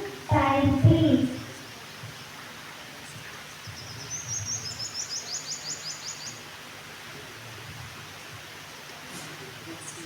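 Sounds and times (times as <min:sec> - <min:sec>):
background hiss: 0:00.0 - 0:10.0.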